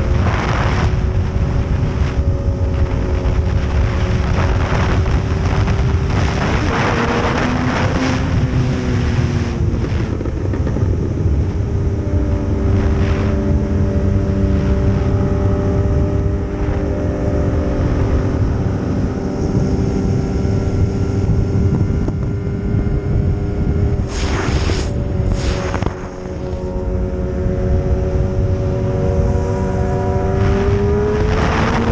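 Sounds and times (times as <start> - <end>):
motorcycle engine cruising: 0.0 - 31.9
wind rushing over microphone: 0.0 - 31.9.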